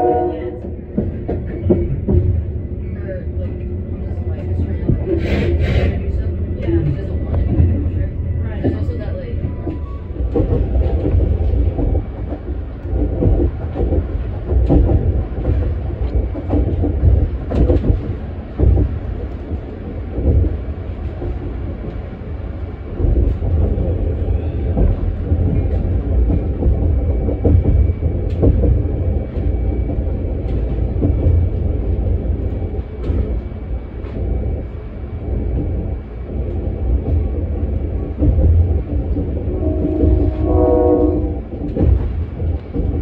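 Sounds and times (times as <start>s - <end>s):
train car low rumble: 0.0s - 43.0s.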